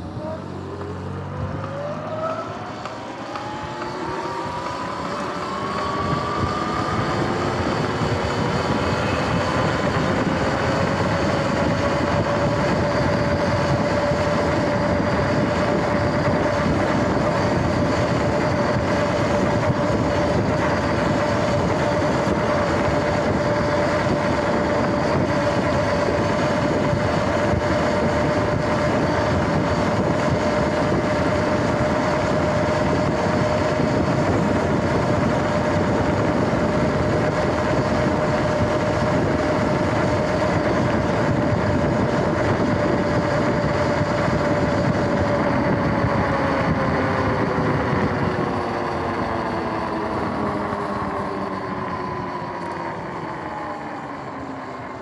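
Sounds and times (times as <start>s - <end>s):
electric motor whining: 0.0s - 53.3s
wind noise: 0.0s - 54.5s.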